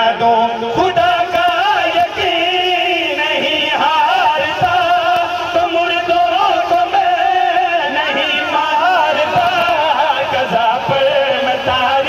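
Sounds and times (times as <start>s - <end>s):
men singing together: 0.0s - 12.0s.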